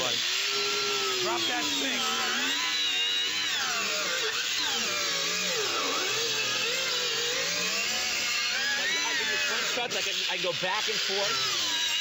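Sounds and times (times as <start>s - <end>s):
circular saw cutting: 0.0s - 12.0s.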